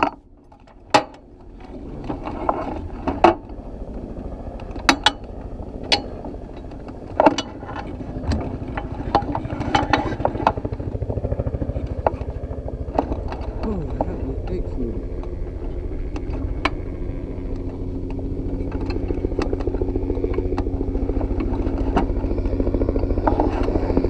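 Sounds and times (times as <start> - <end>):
dragster engine idling: 0.2 - 24.0.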